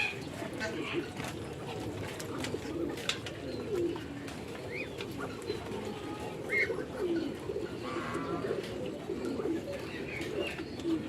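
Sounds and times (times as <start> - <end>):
farm birds calling: 0.0 - 11.0.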